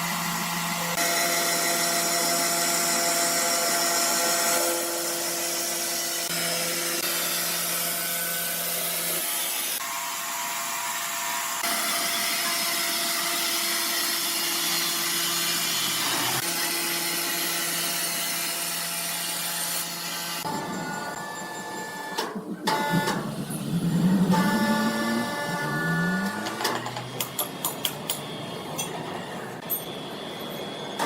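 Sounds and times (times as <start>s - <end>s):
saw cutting through timber: 0.0s - 20.5s, 22.7s - 27.2s.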